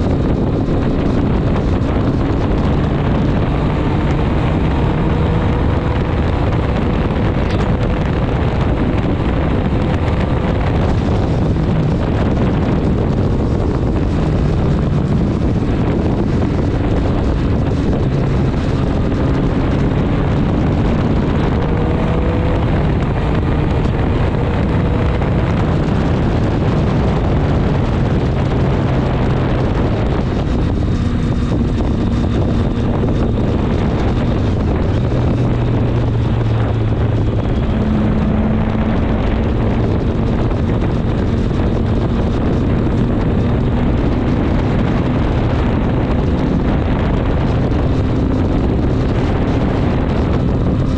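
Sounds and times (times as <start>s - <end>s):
motorcycle engine running: 0.0s - 50.9s
wind on microphone: 0.0s - 50.9s.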